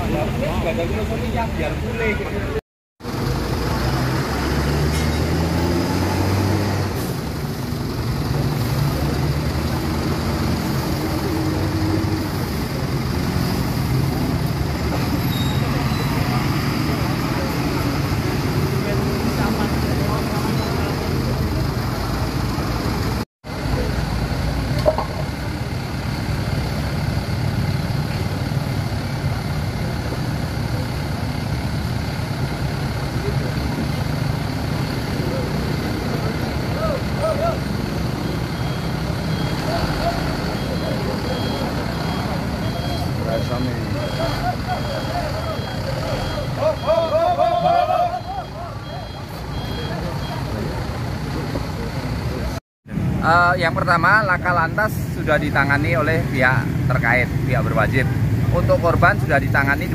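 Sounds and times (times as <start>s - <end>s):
heavy vehicle engine running: 0.0s - 53.2s
passing vehicles: 0.0s - 59.9s
street noise: 0.0s - 59.9s.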